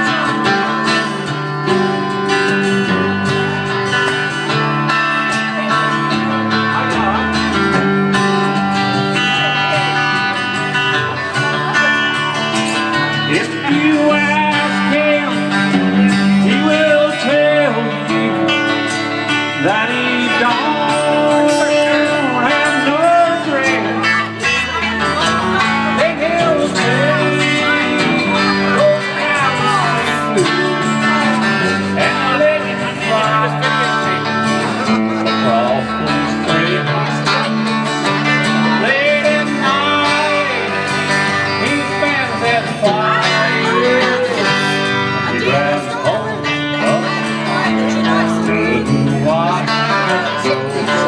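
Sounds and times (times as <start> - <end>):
acoustic guitar country music: 0.0 - 51.0
man singing: 0.0 - 51.0.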